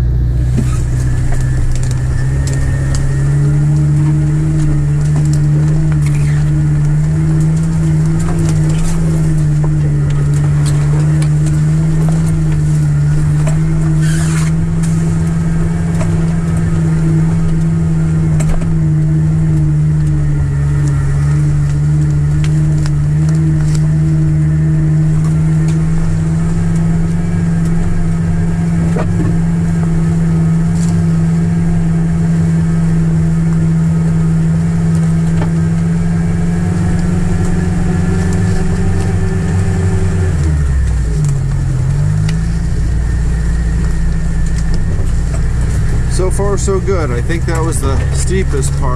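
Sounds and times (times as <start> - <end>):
car engine pulling steadily: 0.0 - 48.9.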